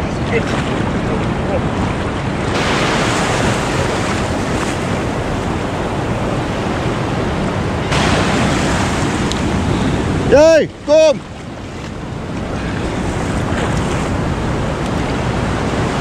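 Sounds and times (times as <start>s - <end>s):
shallow surf washing: 0.0s - 16.0s
wind noise: 0.0s - 16.0s.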